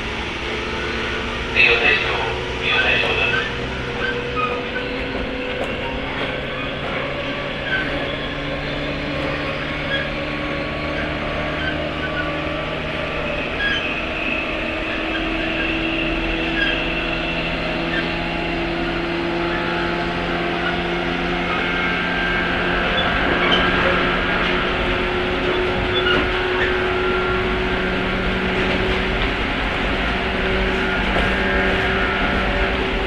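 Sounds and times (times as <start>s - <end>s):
train motors humming: 0.0s - 33.0s
train wheels rumbling: 0.0s - 33.0s.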